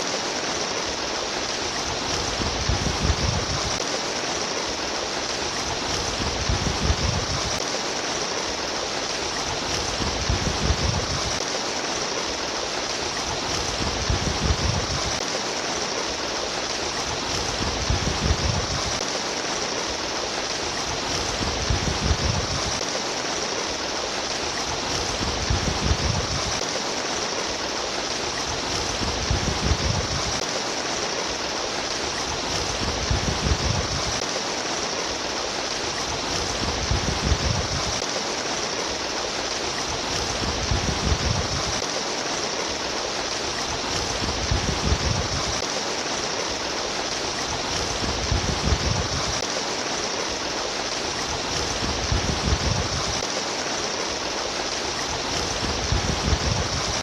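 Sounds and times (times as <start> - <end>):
babbling stream: 0.0 - 57.0
low rumbling water surge: 0.1 - 57.0.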